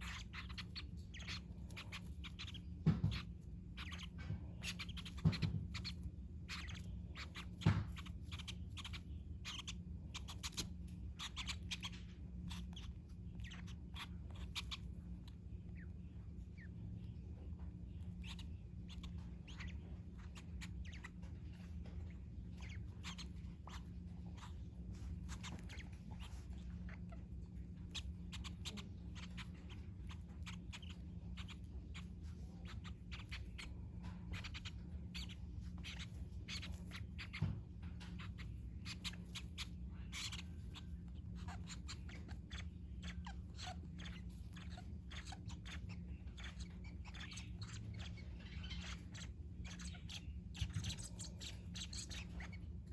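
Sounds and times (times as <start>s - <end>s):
birds chirping and clicking: 0.0s - 52.9s
steady low hum: 0.0s - 52.9s.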